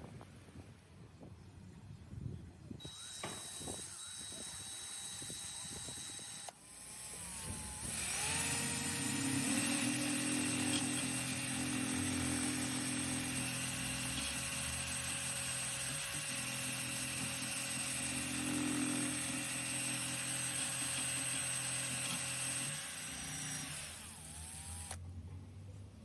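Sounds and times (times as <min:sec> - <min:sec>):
electric power tool motor running: 0:02.8 - 0:25.0.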